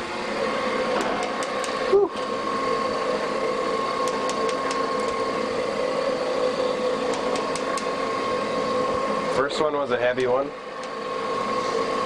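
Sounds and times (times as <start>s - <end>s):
metal shaper machine hum and whine: 0.0s - 12.0s.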